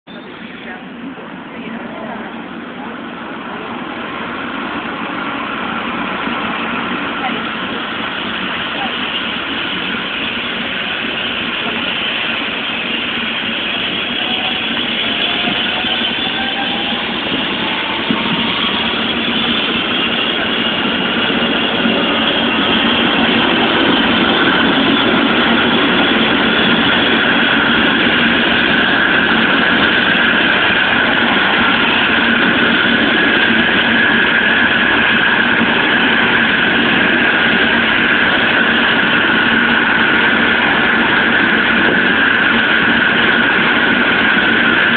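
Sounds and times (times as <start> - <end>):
helicopter turbine whine: 0.1 - 44.9.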